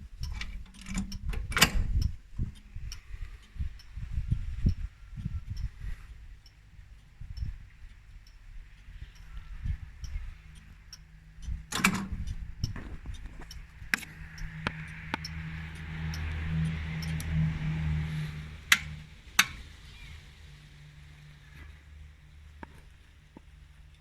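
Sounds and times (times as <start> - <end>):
diesel tractor engine running: 0.0 - 24.0.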